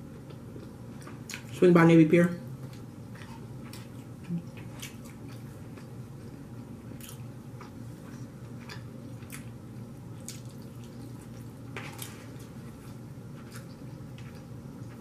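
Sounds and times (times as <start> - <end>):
person chewing: 0.0 - 1.6, 2.6 - 15.0
steady low hum: 0.0 - 15.0.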